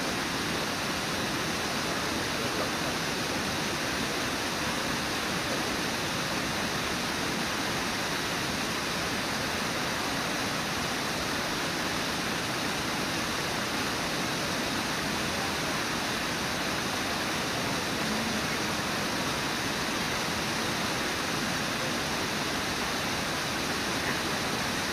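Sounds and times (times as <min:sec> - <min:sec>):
rapids and waterfall rushing: 0:00.0 - 0:24.9.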